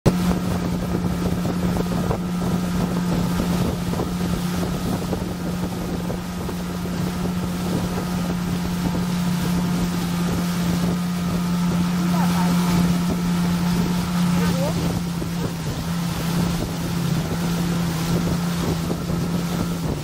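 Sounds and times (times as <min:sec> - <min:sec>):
motor running steadily: 0:00.1 - 0:20.0
wind buffeting microphone: 0:00.1 - 0:20.0.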